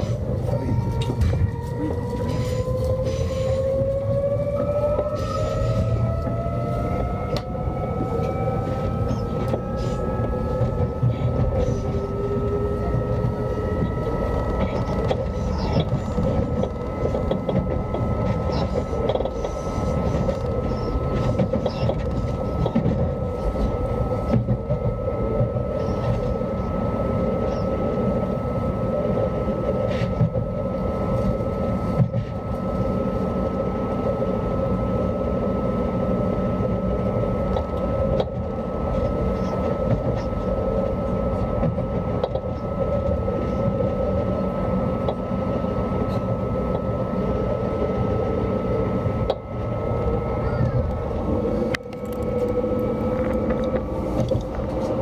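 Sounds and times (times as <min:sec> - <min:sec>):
train traction whine: 0:00.0 - 0:55.0
wheels rumbling on rail: 0:00.0 - 0:55.0.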